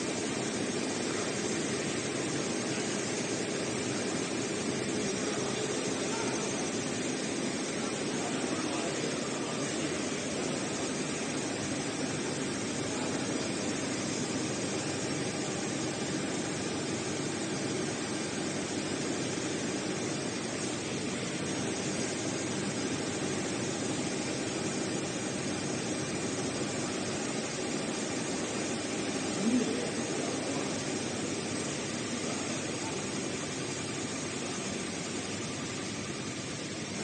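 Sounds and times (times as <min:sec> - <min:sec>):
sewing machine whirring hiss: 0:00.0 - 0:37.0.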